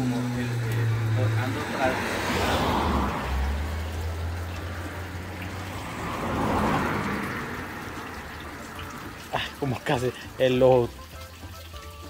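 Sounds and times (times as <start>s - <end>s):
running splashing water: 0.0s - 12.0s.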